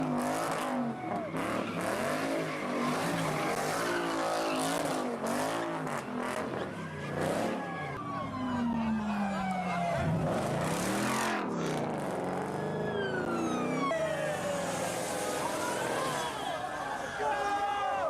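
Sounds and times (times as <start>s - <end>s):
car engine revving: 0.0s - 8.0s, 9.8s - 16.5s.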